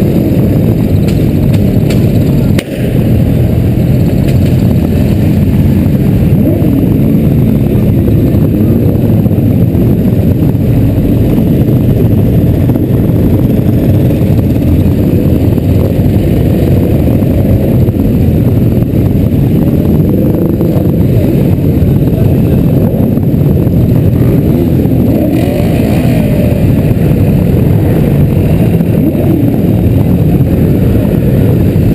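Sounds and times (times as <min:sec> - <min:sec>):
motorcycle engines rumbling: 0:00.0 - 0:31.9.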